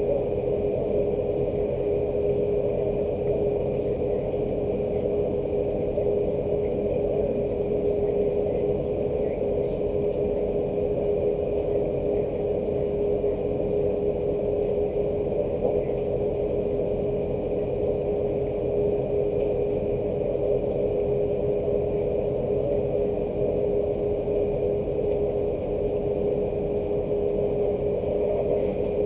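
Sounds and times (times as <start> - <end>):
low droning machine hum: 0.0 - 29.0.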